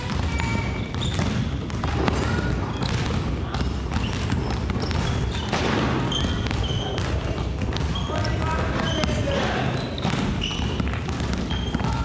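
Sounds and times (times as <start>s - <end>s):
basketballs bouncing on wooden floor: 0.0s - 12.0s.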